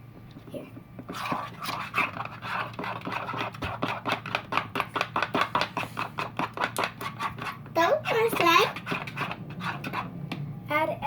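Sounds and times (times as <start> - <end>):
slime being stirred: 0.4 - 10.2.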